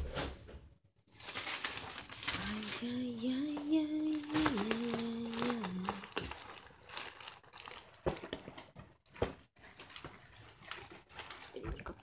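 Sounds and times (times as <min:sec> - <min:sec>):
plastic bag rustling: 0:01.1 - 0:12.0.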